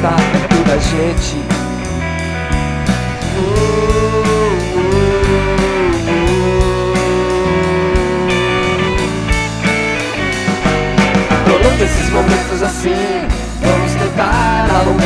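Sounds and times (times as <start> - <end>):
lead guitar bending notes: 0.0 - 15.0
low bass notes: 0.0 - 15.0
steady drum beat: 0.0 - 15.0.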